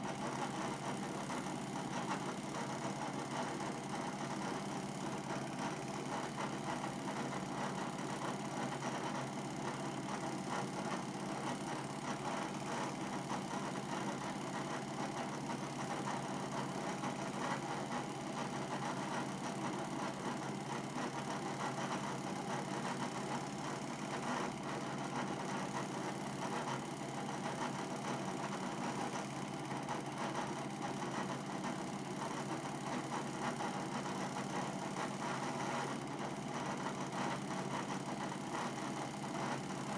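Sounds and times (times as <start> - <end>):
film projector motor whir: 0.0 - 39.9.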